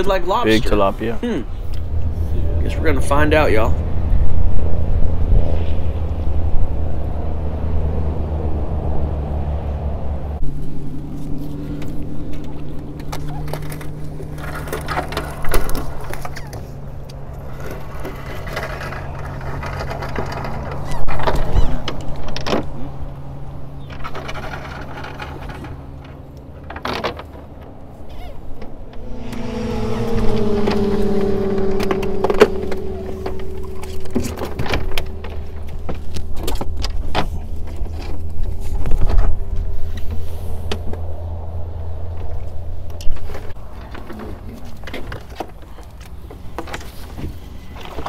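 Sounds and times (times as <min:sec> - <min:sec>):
boat engine hum: 0:00.0 - 0:44.6.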